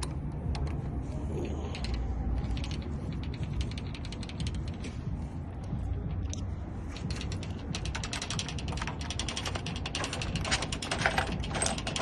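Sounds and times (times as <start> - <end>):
low steady rumble: 0.0 - 12.0
metallic clicks and rattles: 0.0 - 12.0.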